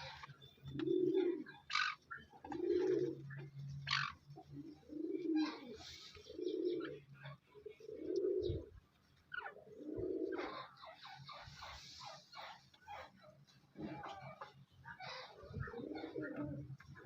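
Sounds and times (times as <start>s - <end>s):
bird cooing: 0.0s - 8.8s, 9.4s - 12.5s, 15.0s - 17.0s.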